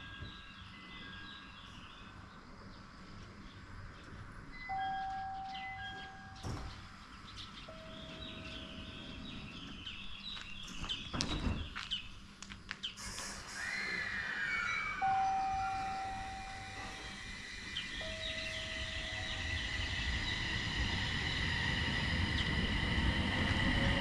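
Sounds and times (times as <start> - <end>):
birds chirping: 0.1 - 12.2, 12.8 - 24.0.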